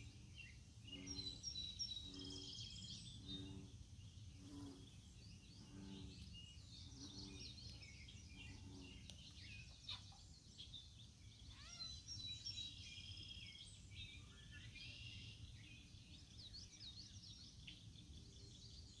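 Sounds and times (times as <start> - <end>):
birds chirping and whistling: 0.0 - 3.6, 4.5 - 19.0.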